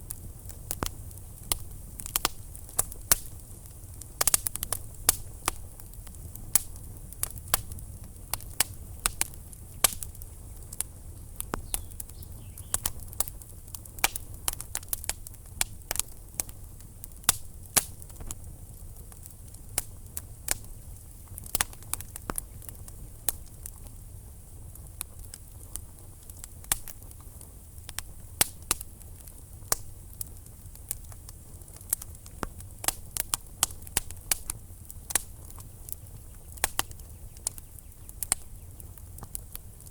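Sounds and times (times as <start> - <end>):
fire crackling and popping: 0.0 - 39.9
low rumble of fire: 0.0 - 39.9.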